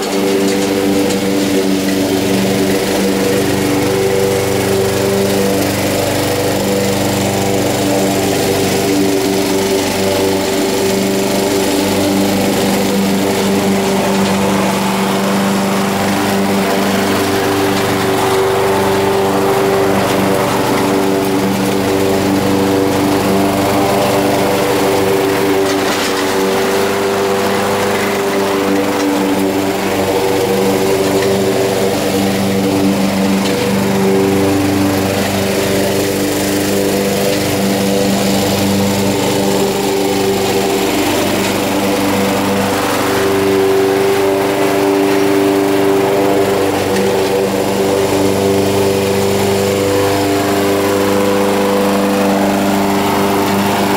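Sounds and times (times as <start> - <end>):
lawn mower engine droning: 0.0 - 53.9.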